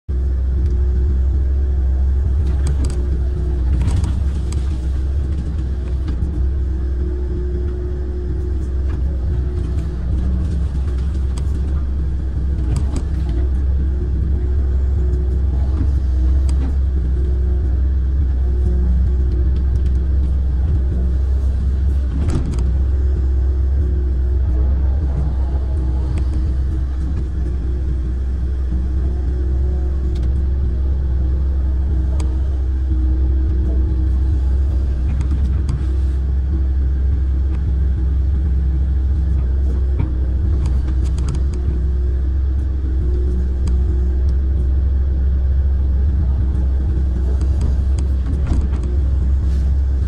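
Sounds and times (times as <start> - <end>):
excavator diesel engine drone: 0.0 - 50.0
excavator arm digging through reeds: 2.1 - 44.5
faint clicks: 2.2 - 44.9.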